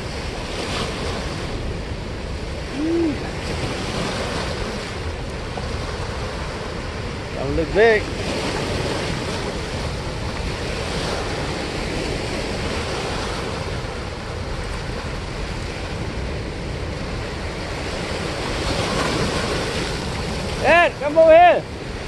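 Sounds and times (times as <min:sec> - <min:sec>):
turbulent water rushing: 0:00.0 - 0:22.0.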